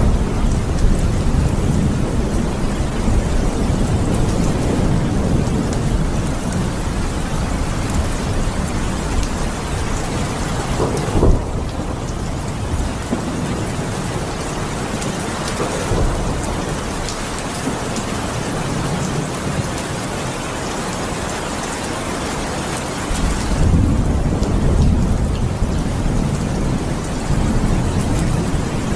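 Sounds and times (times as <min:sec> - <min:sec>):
thunder clap: 0:00.0 - 0:19.8, 0:23.1 - 0:28.9
steady rain: 0:00.0 - 0:28.9
thunder rumbling: 0:00.0 - 0:28.9.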